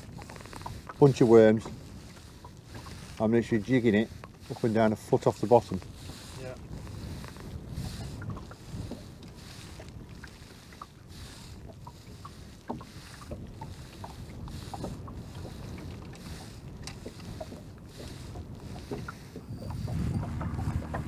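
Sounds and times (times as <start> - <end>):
waves lapping against boat hull: 0.0 - 21.0
wind rumbling on microphone: 0.0 - 21.0.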